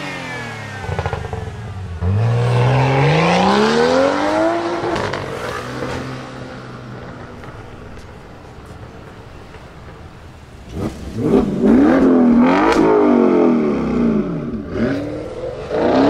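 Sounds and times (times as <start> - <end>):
sports car accelerating: 0.0 - 8.0, 10.6 - 16.0.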